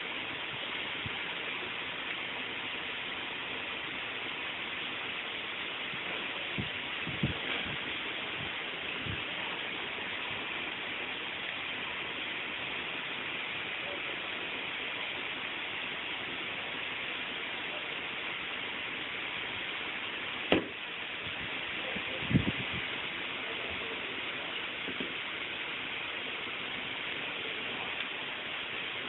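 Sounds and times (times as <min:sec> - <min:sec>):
recording hiss: 0:00.0 - 0:29.0.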